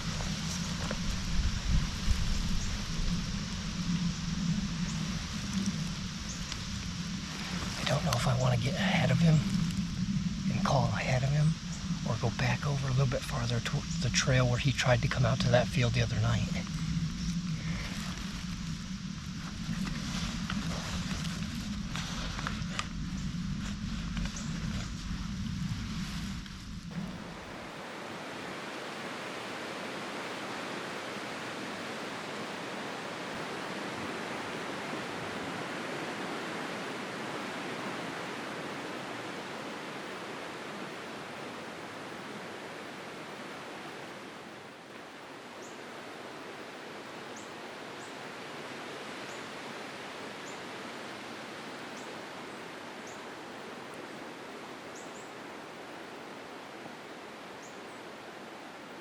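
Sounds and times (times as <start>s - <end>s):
strong wind through trees: 0.0s - 59.0s.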